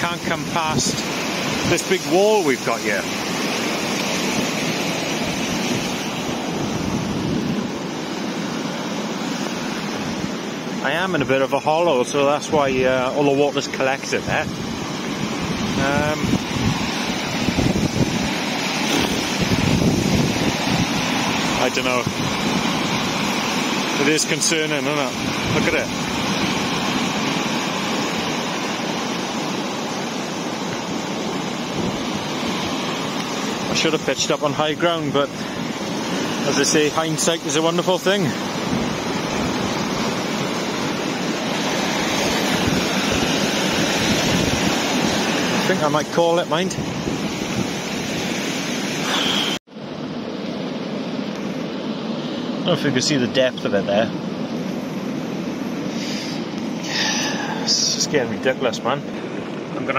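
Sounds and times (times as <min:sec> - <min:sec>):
heavy rain: 0:00.0 - 0:49.7, 0:55.8 - 0:58.4
river rushing: 0:00.0 - 0:59.9.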